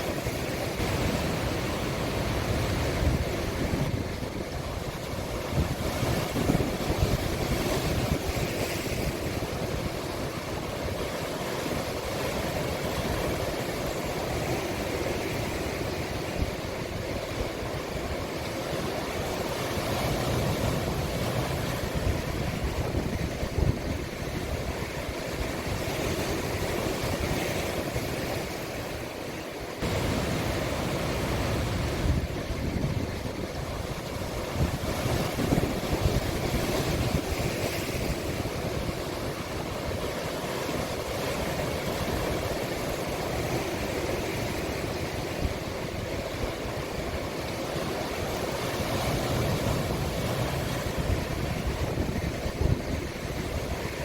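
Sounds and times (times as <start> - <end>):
waves breaking on shore: 0.0 - 54.0
wind rumbling on microphone: 0.0 - 54.0.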